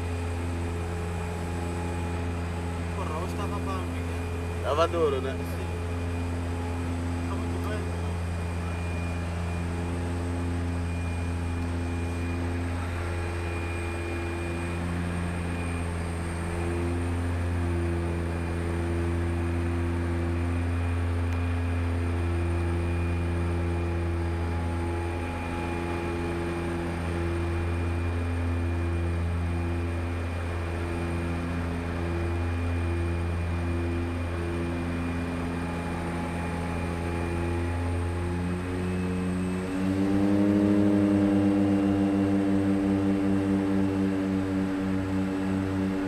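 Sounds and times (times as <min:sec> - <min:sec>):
high turbine whine: 0:00.0 - 0:46.0
turboprop engines droning: 0:00.0 - 0:46.0.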